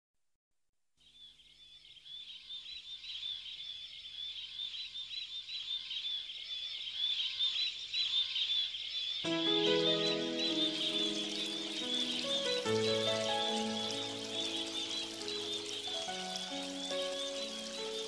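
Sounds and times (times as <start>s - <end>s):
small birds chirping: 1.0s - 18.0s.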